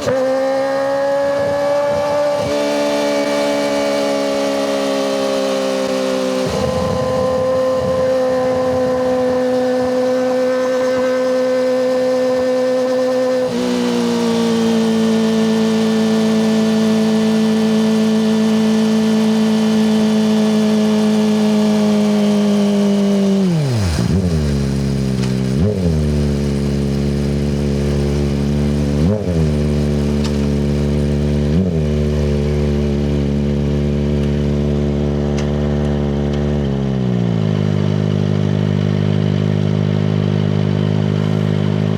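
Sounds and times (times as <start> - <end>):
engine throttle blips: 0.0 - 41.9
motorcycle engine revving: 0.0 - 41.9.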